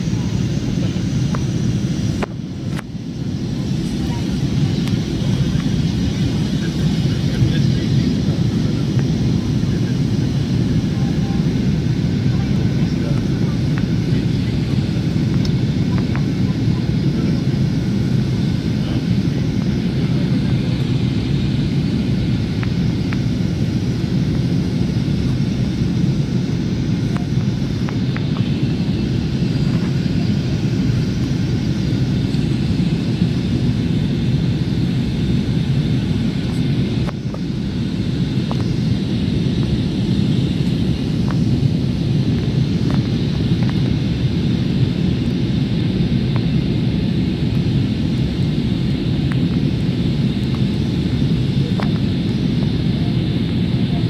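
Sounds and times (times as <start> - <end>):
jet cabin engine rumble: 0.0 - 54.0.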